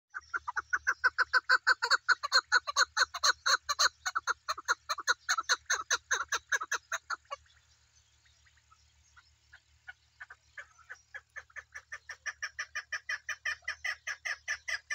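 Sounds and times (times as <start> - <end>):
partridge calling: 0.1 - 14.9.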